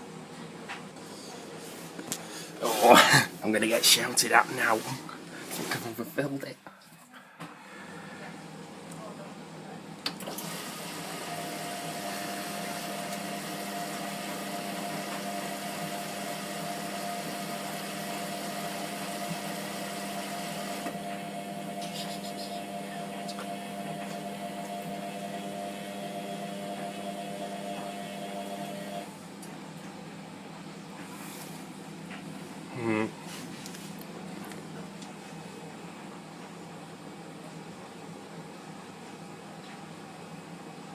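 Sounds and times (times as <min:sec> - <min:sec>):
washing machine humming: 0:00.0 - 0:40.9.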